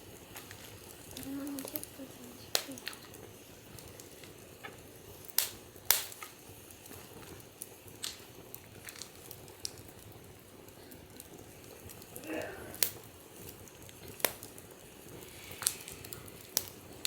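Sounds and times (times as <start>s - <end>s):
campfire crackling and popping: 0.0s - 17.0s
low steady hiss: 0.0s - 17.0s.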